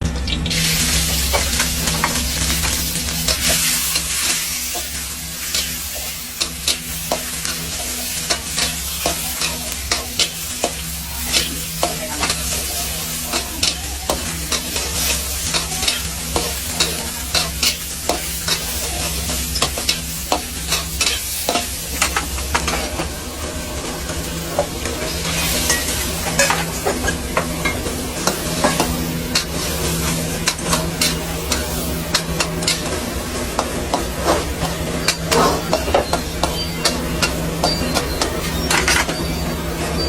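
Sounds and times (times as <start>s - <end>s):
food sizzling in a wok: 0.0s - 40.0s
utensil clacking against wok: 0.3s - 40.0s.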